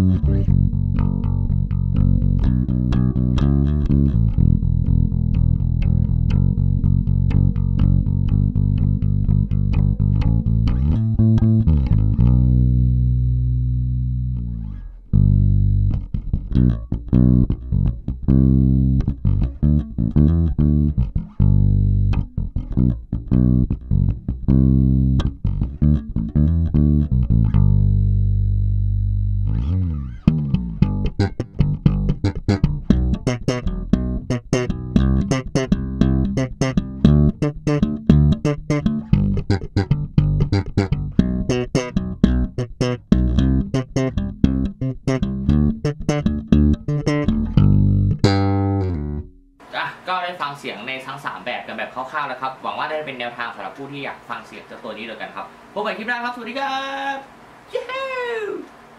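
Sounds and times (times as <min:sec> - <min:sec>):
electric bass playing solo: 0:00.0 - 0:49.7.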